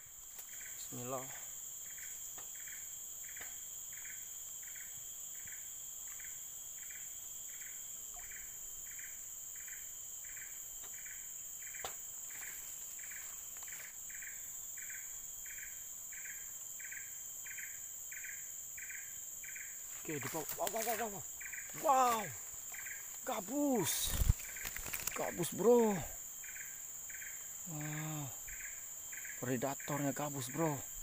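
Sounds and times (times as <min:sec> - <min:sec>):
insects buzzing and chirping: 0:00.0 - 0:31.0.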